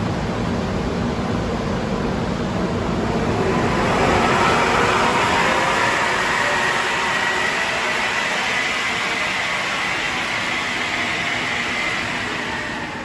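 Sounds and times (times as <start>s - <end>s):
air compressor rush: 0.0s - 13.0s
thin high whine: 1.8s - 13.0s.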